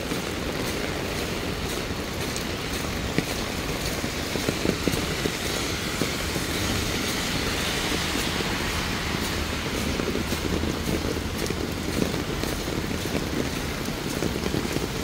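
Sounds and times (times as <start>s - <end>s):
heavy rain on street: 0.0s - 15.0s
raindrops tapping: 0.0s - 15.0s.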